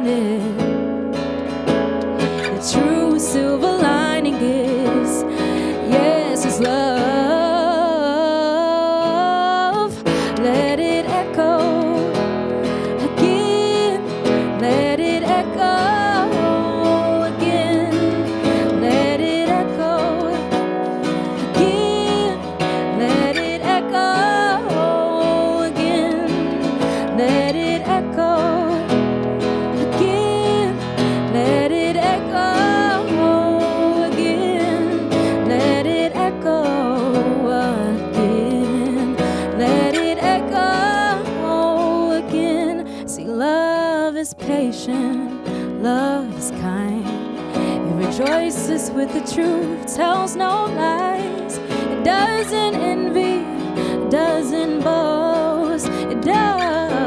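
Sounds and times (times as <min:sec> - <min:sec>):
strummed acoustic guitar: 0:00.0 - 0:57.0
woman singing with vibrato: 0:00.0 - 0:57.0.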